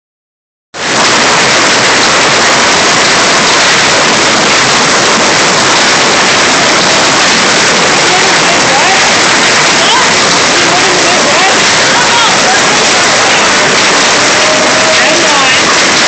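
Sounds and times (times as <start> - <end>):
hail and rain pelting pavement: 0.8 - 16.0.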